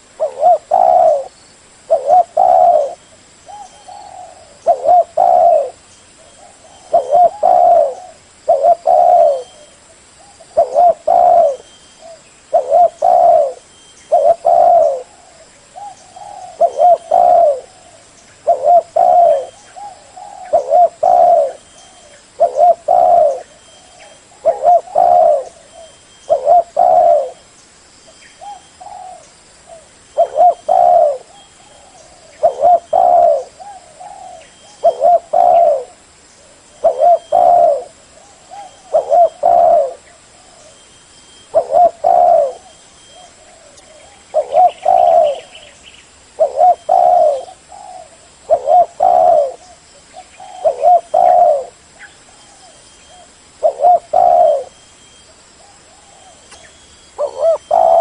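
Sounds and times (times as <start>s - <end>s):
dove cooing: 0.0s - 27.4s, 28.4s - 58.0s.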